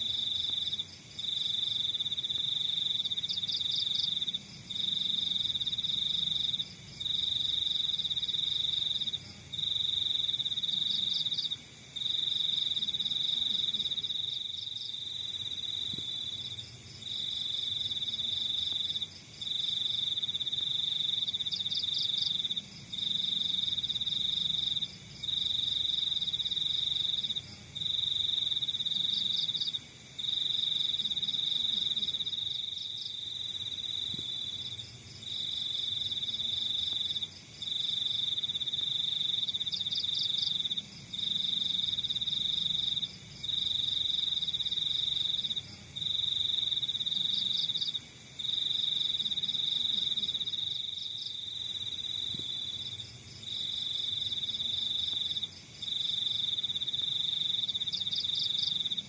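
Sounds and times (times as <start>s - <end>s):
cricket trilling: 0.0s - 59.0s
faint insect chirps: 0.0s - 59.0s.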